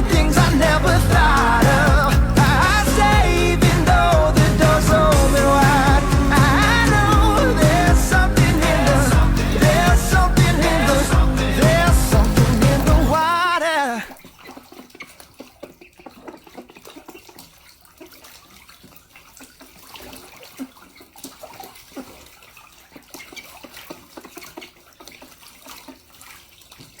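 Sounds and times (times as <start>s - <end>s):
water splashing in bird bath: 0.0s - 27.0s.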